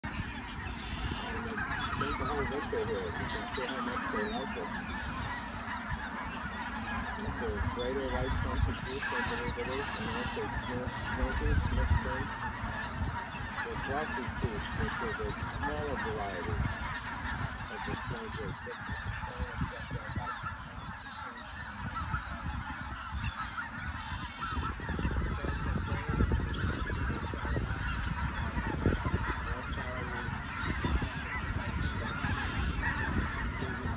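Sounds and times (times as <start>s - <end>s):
flock of geese honking: 0.0s - 33.9s.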